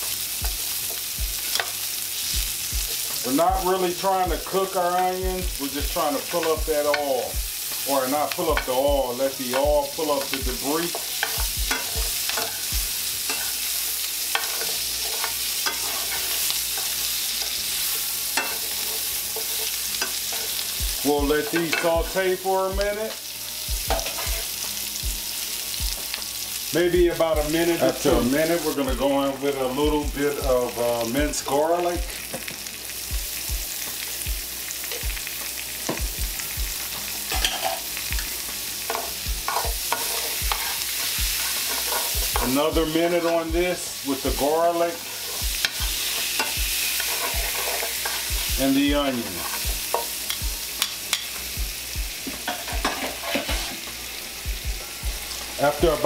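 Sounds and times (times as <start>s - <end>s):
onions sizzling in a pan: 0.0s - 56.0s.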